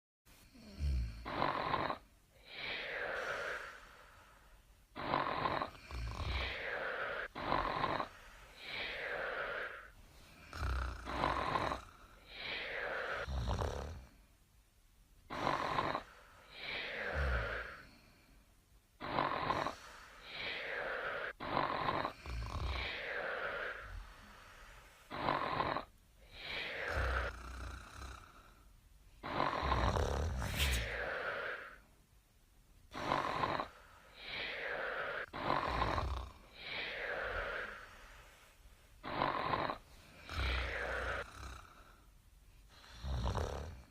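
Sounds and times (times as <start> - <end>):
wombat snoring: 0.5 - 3.7, 5.0 - 14.2, 15.3 - 18.0, 19.0 - 24.3, 25.1 - 28.6, 29.2 - 31.8, 32.9 - 37.9, 39.0 - 42.0, 42.7 - 43.9.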